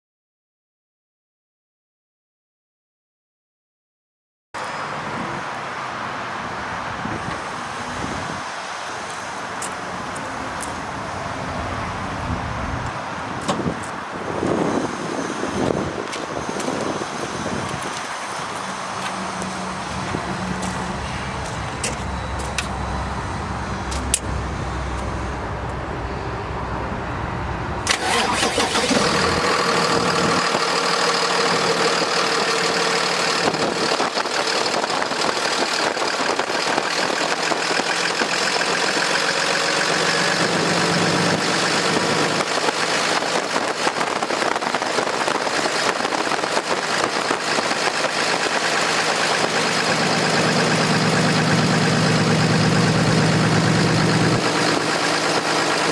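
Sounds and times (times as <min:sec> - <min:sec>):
diesel truck engine starting and idling: 0:09.2 - 0:55.9.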